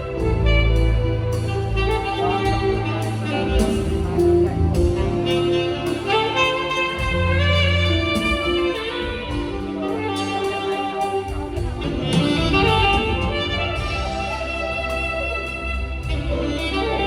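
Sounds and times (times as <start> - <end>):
live band accompaniment: 0.0 - 17.0
saxophones playing melody: 0.0 - 17.0
steady bass line: 0.0 - 17.0.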